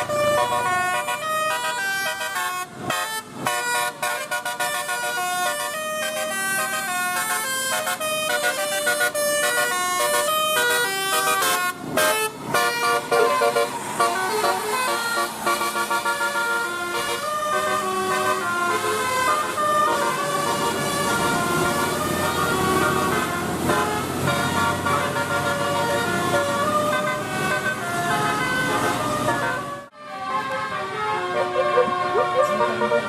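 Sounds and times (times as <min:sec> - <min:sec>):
multi-tone air horn melody: 0:00.0 - 0:33.0.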